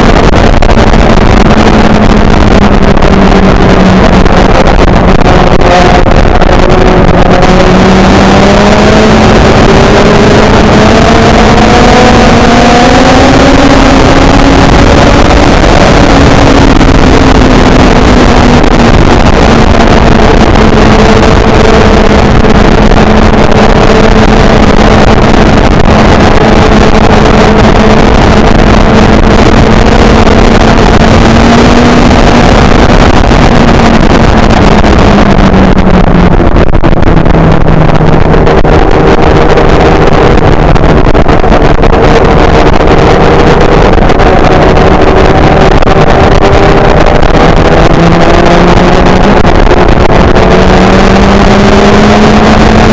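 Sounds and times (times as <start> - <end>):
motorcycle engine running: 0.0 - 52.9
wind rush on microphone: 0.0 - 52.9.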